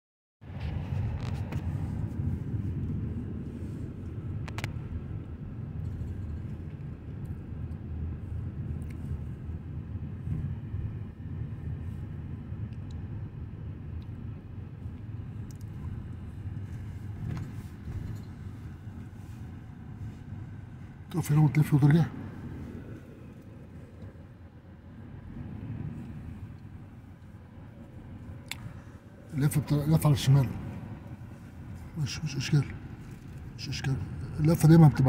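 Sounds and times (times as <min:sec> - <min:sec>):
car engine and tyre rumble: 0:00.4 - 0:35.0.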